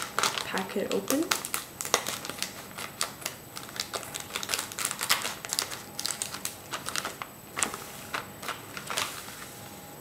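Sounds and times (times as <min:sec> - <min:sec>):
plastic film crinkling: 0:00.0 - 0:09.8.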